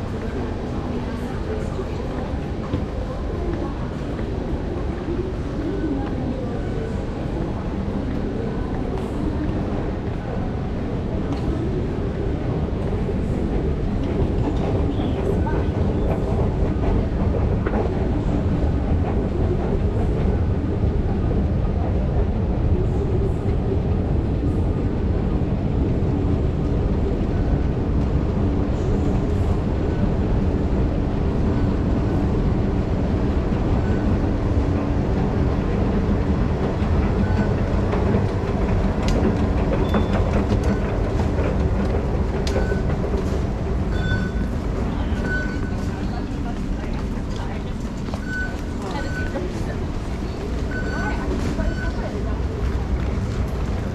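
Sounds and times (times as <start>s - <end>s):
wheels rumbling on rail: 0.0s - 53.9s.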